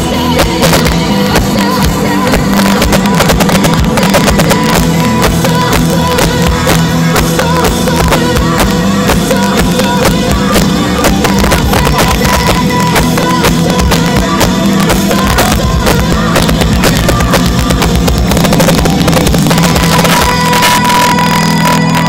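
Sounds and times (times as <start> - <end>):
pounding drums: 0.0 - 21.5
distorted live rock band: 0.0 - 22.0.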